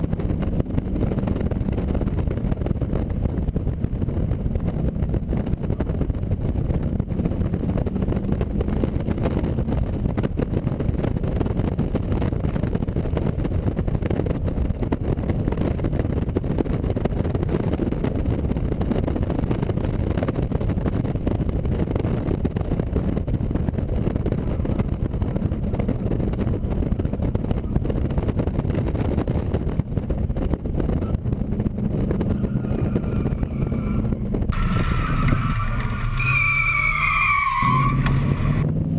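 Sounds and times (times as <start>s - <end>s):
car engine pulling hard: 0.0s - 38.9s.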